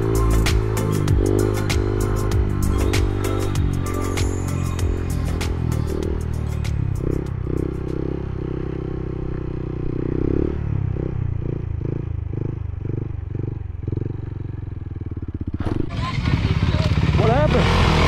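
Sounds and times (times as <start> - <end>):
motorcycle engine pulsing: 0.0 - 18.0.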